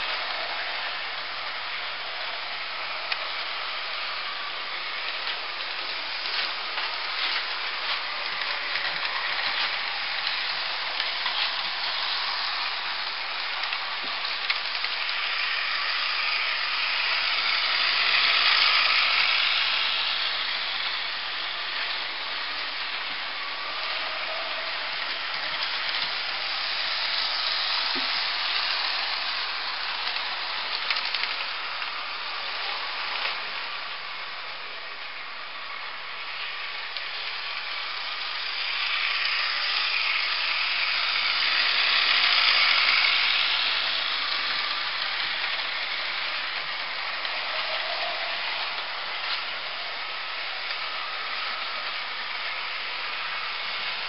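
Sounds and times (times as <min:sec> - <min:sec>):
model train wheels and motors: 0:00.0 - 0:54.0.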